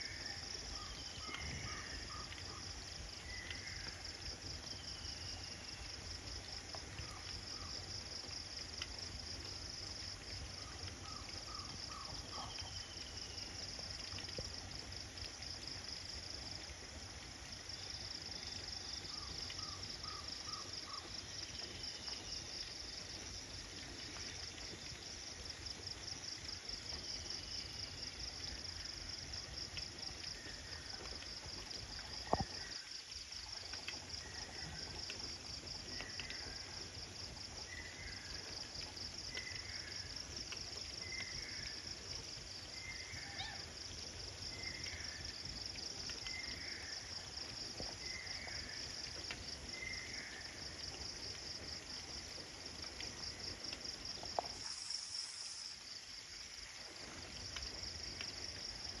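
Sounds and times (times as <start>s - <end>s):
crickets trilling: 0.0s - 59.0s
short repeated insect call: 0.0s - 59.0s.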